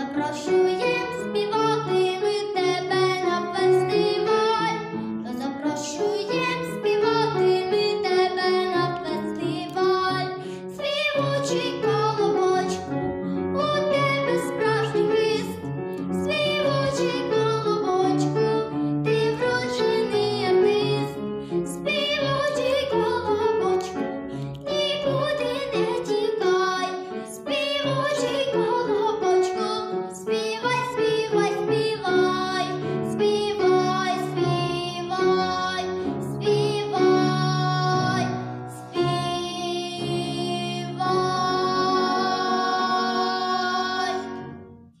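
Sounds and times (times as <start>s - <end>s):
girl singing: 0.0s - 44.5s
piano accompaniment: 0.0s - 45.0s.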